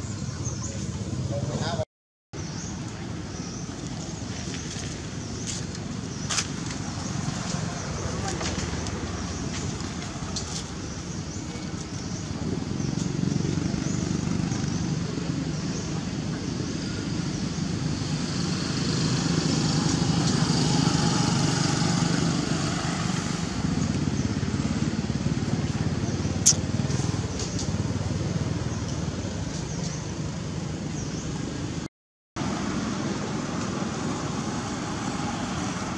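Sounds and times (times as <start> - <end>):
road traffic rumble: 0.0 - 1.8, 2.4 - 35.9.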